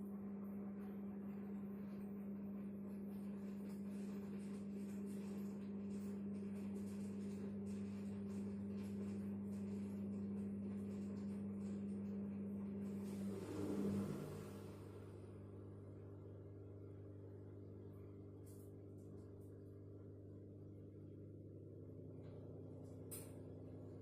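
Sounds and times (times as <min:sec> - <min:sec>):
washing machine humming: 0:00.0 - 0:24.0.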